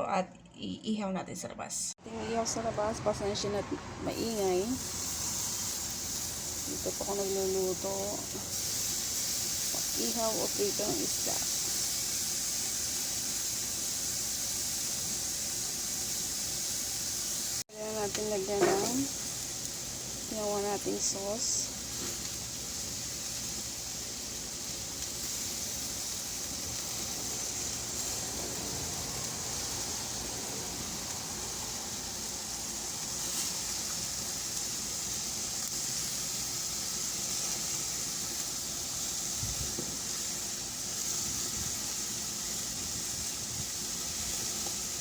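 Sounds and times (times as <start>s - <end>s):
meat sizzling on a grill: 2.1s - 45.0s.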